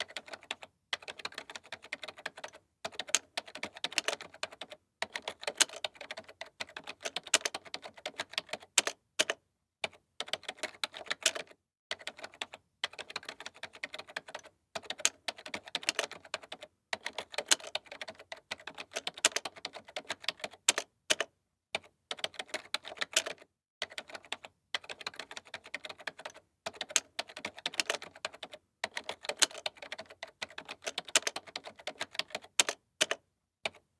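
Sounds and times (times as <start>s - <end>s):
typing on computer keyboard: 0.0s - 33.9s.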